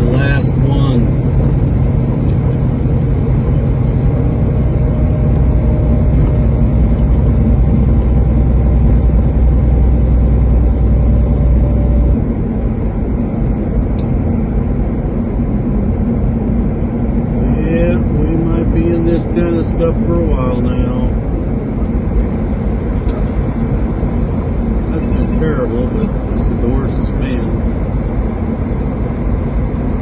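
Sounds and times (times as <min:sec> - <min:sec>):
truck engine drone: 0:00.0 - 0:30.0.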